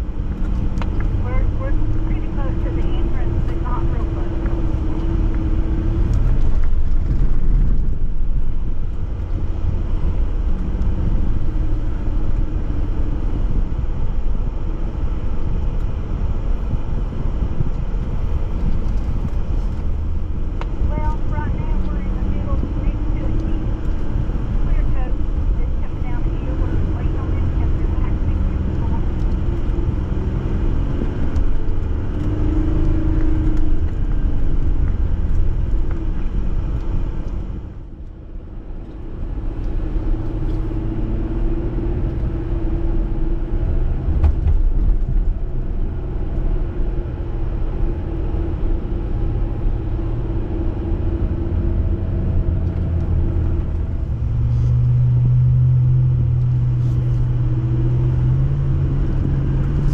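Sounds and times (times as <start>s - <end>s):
car engine running: 0.0s - 59.9s
low hum: 0.0s - 59.9s.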